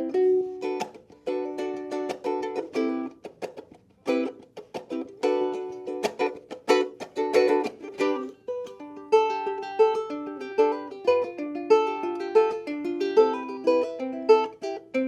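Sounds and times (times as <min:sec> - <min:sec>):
ukulele strumming and picking: 0:00.0 - 0:15.0.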